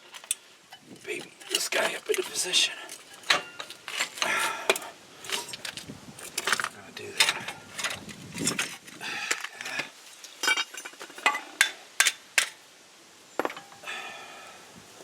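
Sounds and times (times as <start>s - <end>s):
metal tools clinking: 0.0s - 12.6s, 13.4s - 13.8s.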